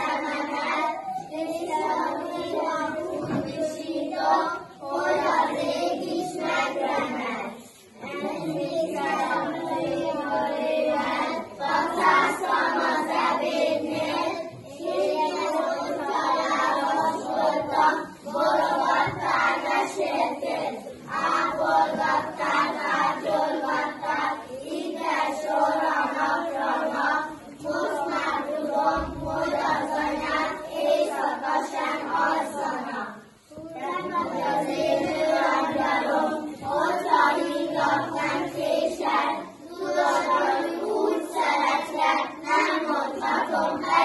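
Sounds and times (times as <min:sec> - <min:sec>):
children singing in chorus: 0:00.0 - 0:44.0.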